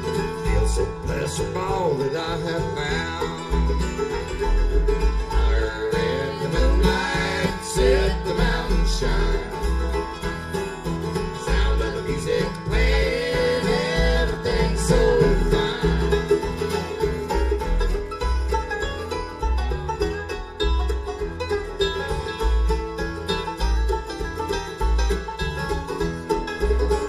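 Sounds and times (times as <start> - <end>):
bluegrass music with picked strings: 0.0 - 27.0
pulsing bass beat: 0.0 - 27.0.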